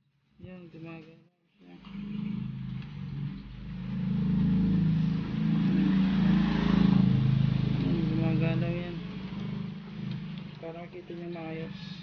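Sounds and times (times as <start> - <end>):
vehicle engine running: 1.7 - 12.0.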